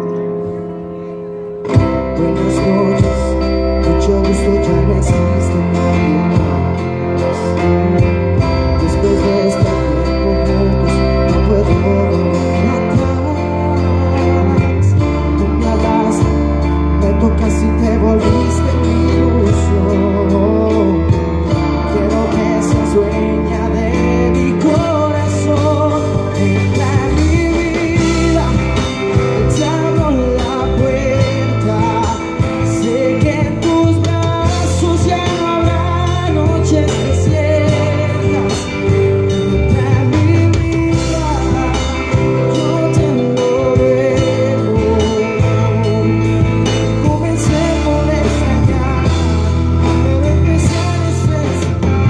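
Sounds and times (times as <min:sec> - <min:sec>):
bass guitar: 0:00.0 - 0:52.0
drums: 0:00.0 - 0:52.0
live band playing pop ballad: 0:00.0 - 0:52.0
person singing: 0:00.0 - 0:52.0.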